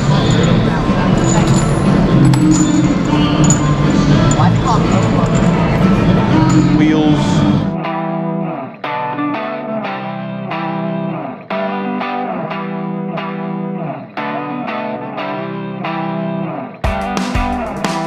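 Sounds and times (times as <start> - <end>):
electric guitar plucked pattern: 0.0 - 18.0.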